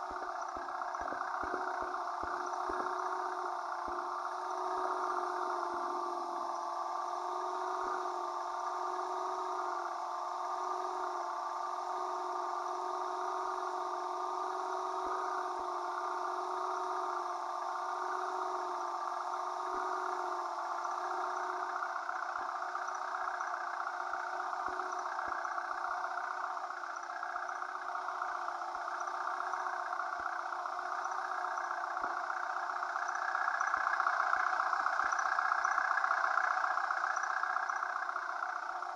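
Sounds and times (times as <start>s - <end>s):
vehicle engine droning hum: 0.0s - 38.9s.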